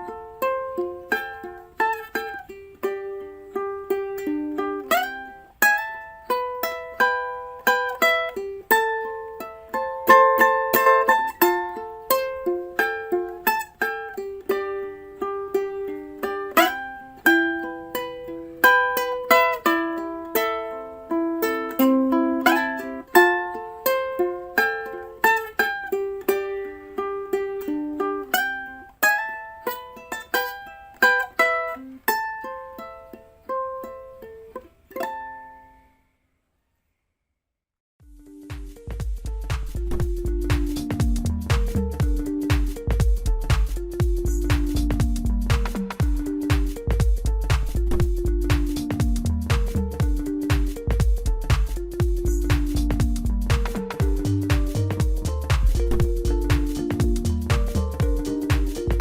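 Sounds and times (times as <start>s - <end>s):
plucked string instrumental tune: 0.0s - 36.0s, 38.0s - 59.0s.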